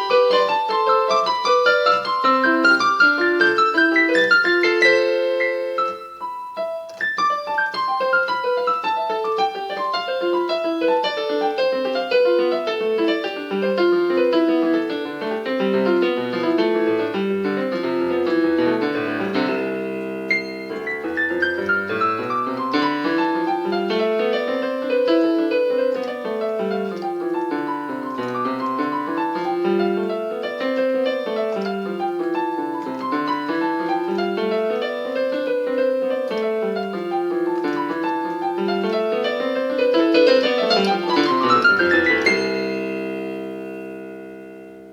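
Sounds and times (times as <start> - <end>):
solo piano arpeggios: 0.0 - 44.9.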